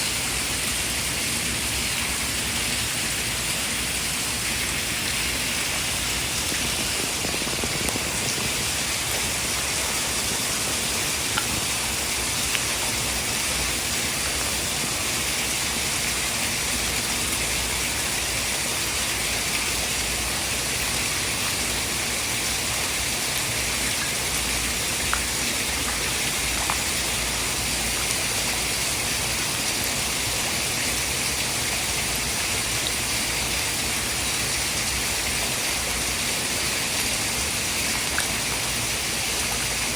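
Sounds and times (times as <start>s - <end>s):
hiss of falling water: 0.0s - 39.9s.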